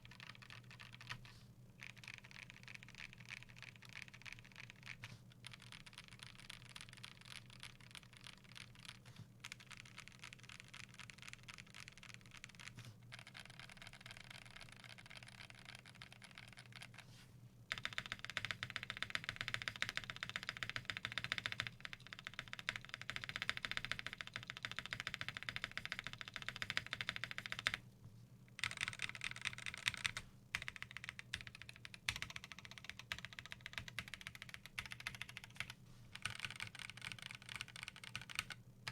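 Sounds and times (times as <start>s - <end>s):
fast typing on mechanical keyboard: 0.0s - 17.0s, 17.7s - 27.8s, 28.6s - 38.9s.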